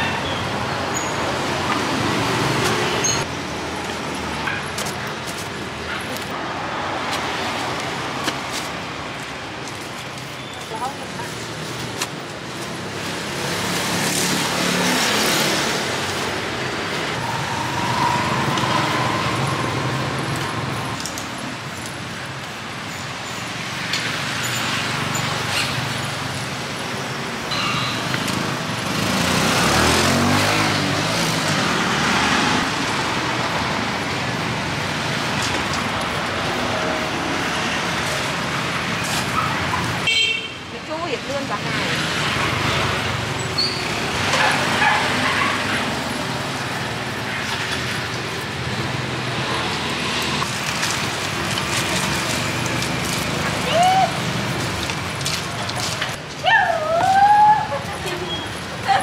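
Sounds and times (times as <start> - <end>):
vehicles passing by: 0.0 - 59.0.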